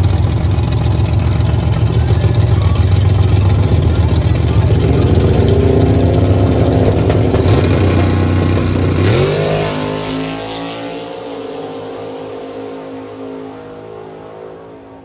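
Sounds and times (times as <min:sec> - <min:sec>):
drag racing car engines revving: 0:00.0 - 0:15.0.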